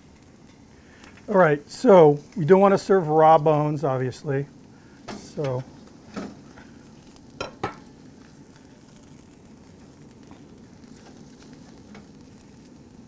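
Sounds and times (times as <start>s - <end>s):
steaks sizzling on a grill: 0.0s - 13.0s.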